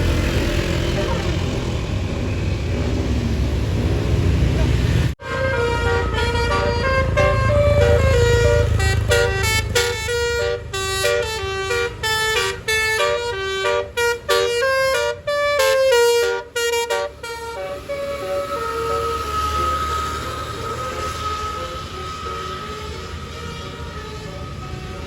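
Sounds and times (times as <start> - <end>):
multi-tone bus horn melody: 0.0 - 1.8, 5.2 - 25.0
low engine rumble: 0.0 - 25.0.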